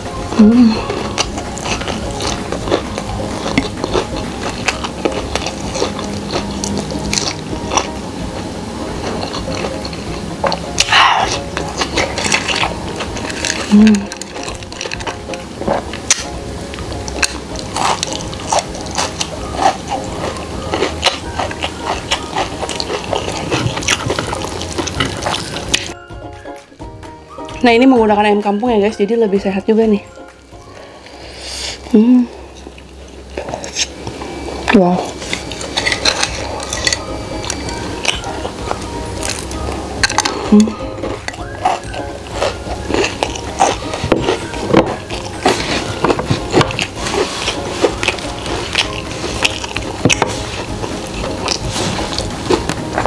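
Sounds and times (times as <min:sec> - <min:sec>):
chewing crispy food: 0:00.0 - 0:26.6, 0:30.2 - 0:53.0.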